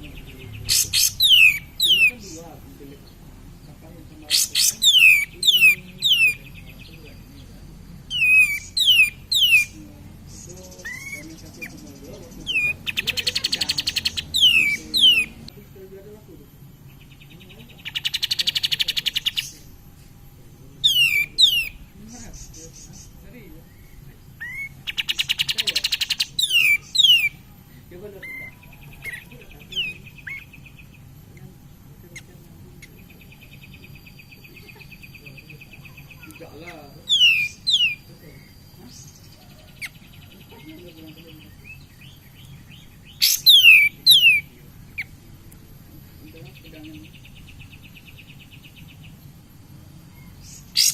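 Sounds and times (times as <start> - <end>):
bulbul singing trills: 0.0 - 50.9.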